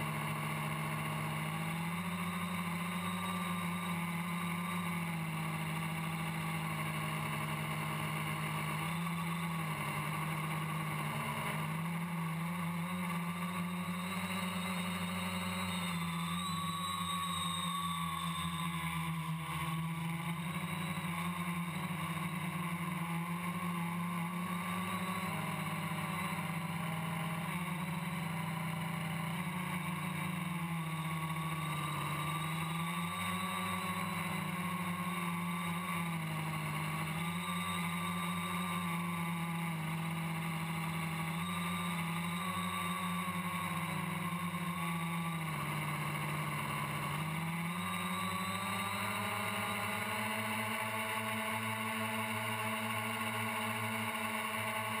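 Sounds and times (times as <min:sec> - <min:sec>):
quadcopter propellers buzzing: 0:00.0 - 0:55.0.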